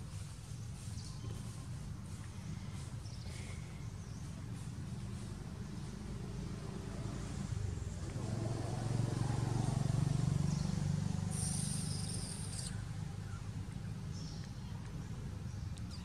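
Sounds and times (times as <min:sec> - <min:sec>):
distant engine hum: 0:00.0 - 0:16.0.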